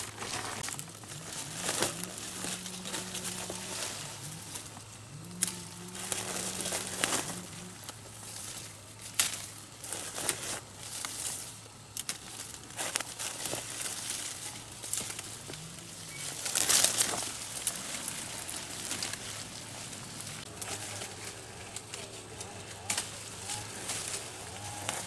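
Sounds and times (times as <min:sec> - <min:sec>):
leaves and twigs rustling: 0:00.0 - 0:25.0.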